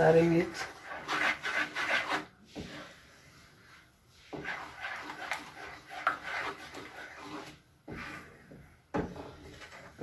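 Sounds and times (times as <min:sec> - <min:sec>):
wooden spoon scraping a pan: 0:00.0 - 0:10.0.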